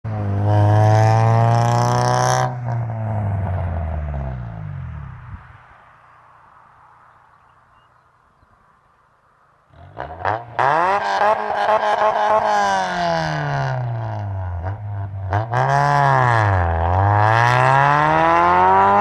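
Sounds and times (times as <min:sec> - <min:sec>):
car engine at high rpm passing: 0:00.1 - 0:07.4, 0:09.7 - 0:19.0.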